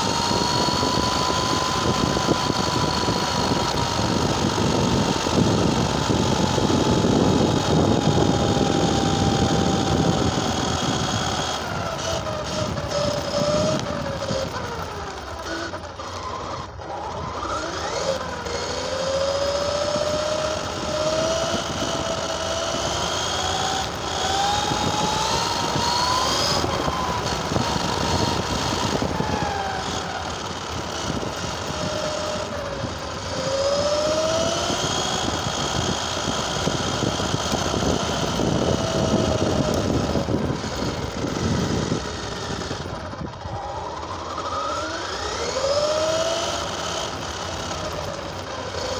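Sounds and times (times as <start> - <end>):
rc car motor revving: 0.0 - 48.9.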